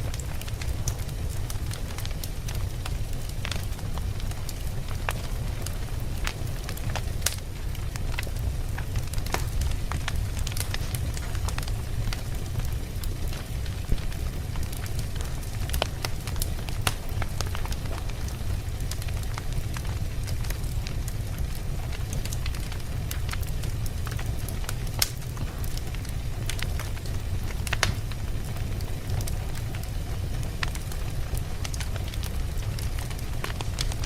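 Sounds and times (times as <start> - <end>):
low rumble of flames: 0.0 - 34.0
wood crackling and popping: 0.0 - 34.0.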